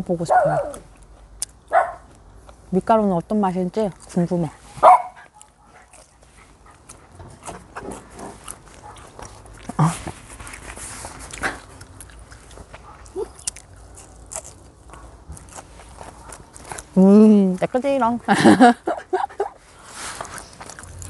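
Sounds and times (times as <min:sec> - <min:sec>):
eating and chewing: 0:00.1 - 0:21.0.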